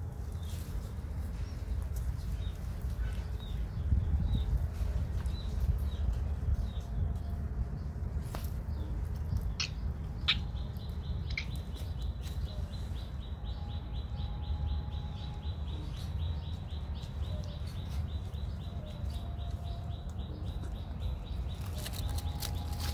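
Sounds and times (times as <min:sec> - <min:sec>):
steady low rumble: 0:00.0 - 0:22.9.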